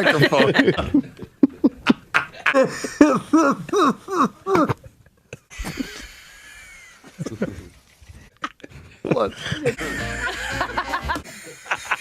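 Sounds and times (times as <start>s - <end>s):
man laughing: 0.0s - 4.7s, 5.5s - 7.8s, 8.4s - 12.0s
breathy wheeze laugh: 0.2s - 4.6s, 5.5s - 7.8s, 8.4s - 12.0s.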